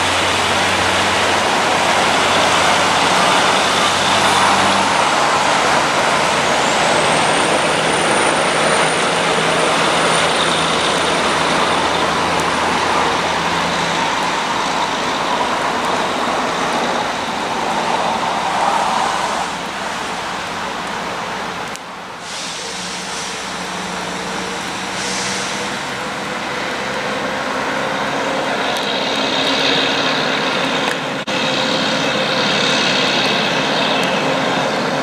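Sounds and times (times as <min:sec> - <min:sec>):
truck engine drone: 0:00.0 - 0:35.0
tyre and road noise: 0:00.0 - 0:35.0.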